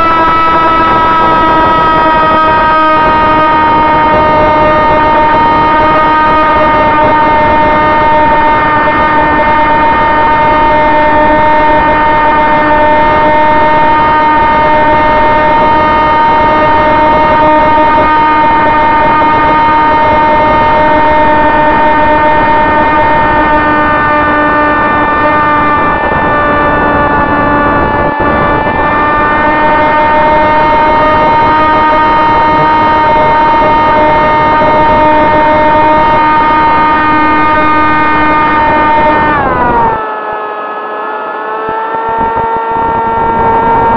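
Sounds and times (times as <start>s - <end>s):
wind rushing on microphone: 0.0s - 40.0s, 41.7s - 43.9s
electric motor and propeller whine: 0.0s - 43.9s.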